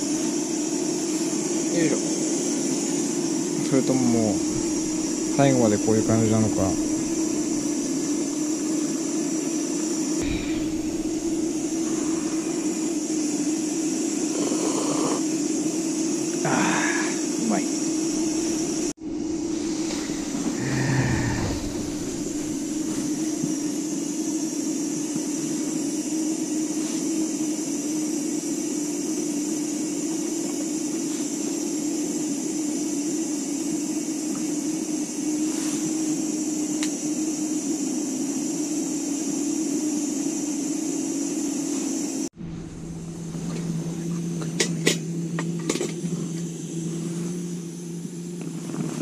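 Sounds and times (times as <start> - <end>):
hiss: 0.0 - 49.0
mechanical whirring hum: 0.0 - 49.0.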